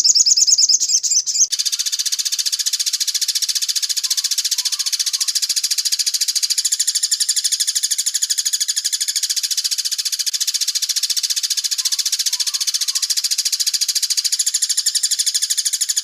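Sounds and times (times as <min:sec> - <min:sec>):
songbird trilling: 0:00.0 - 0:16.0.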